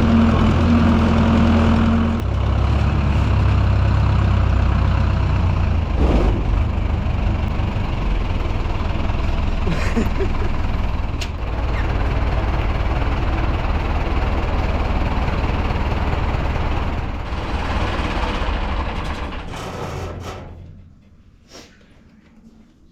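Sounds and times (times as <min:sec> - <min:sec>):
tractor diesel engine running: 0:00.0 - 0:21.4.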